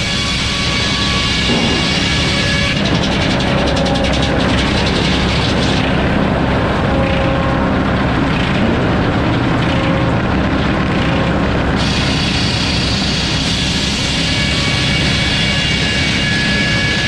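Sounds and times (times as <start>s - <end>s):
circular saw blade cutting: 0.0s - 7.8s, 11.1s - 17.0s
low power unit hum: 0.0s - 17.0s.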